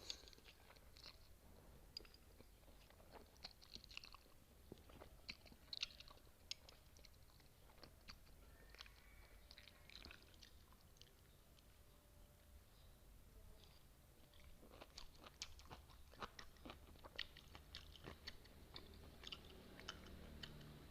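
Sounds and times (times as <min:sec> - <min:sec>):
close-miked chewing crunches: 0:00.0 - 0:11.7, 0:13.6 - 0:20.9.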